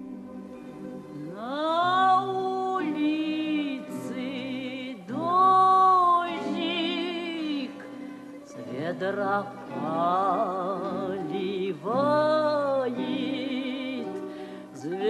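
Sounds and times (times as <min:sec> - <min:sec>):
singing voice long held notes: 0:00.0 - 0:15.0.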